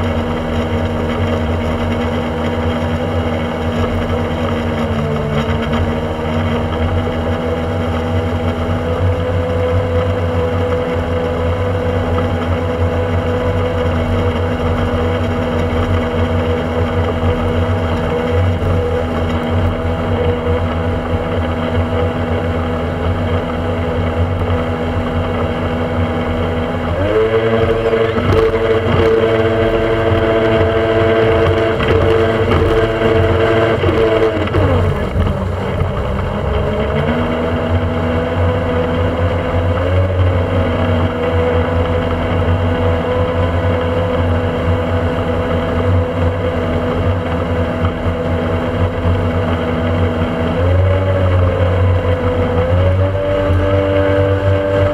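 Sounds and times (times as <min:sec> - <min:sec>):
motorboat engine running: 0:00.0 - 0:54.9.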